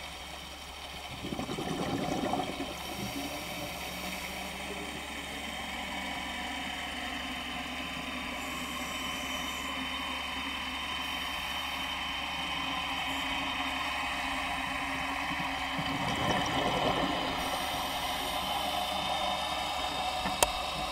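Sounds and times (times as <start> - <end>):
mechanical hum: 0.0 - 20.9.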